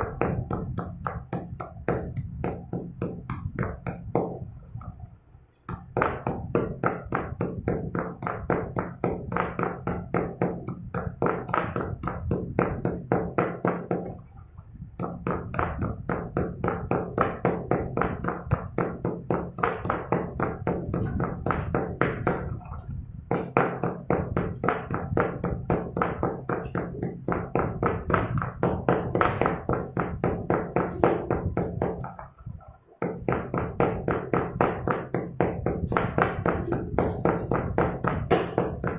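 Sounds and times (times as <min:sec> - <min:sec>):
stone pestle pounding in mortar: 0:00.0 - 0:05.0, 0:05.7 - 0:14.3, 0:15.0 - 0:38.9.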